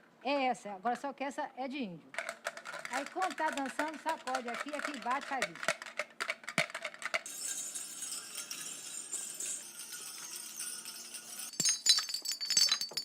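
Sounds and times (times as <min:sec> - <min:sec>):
mask rattles jingling: 0:02.1 - 0:13.0.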